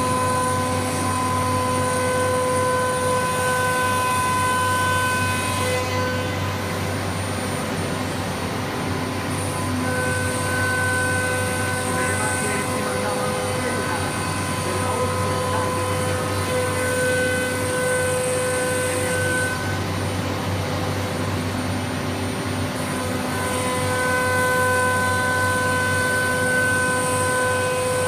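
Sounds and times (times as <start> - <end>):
machine noise: 0.0 - 28.0
router spindle whine: 0.0 - 28.0.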